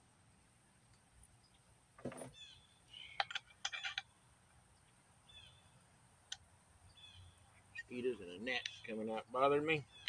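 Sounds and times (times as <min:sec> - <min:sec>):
birds chirping: 0:00.9 - 0:10.0.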